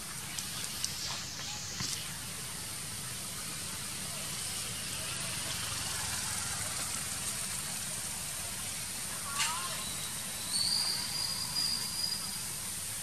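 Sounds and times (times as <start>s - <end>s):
even hiss: 0.0s - 13.0s
road traffic rumble: 0.0s - 13.0s.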